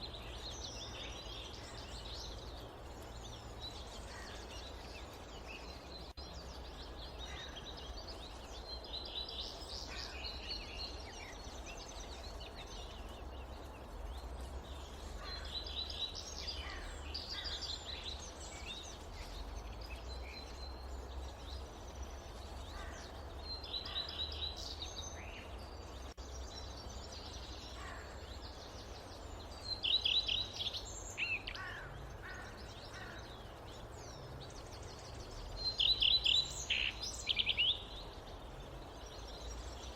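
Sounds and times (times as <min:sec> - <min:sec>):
birds chirping and trilling: 0:00.0 - 0:39.9
low rumble of wind: 0:00.0 - 0:39.9.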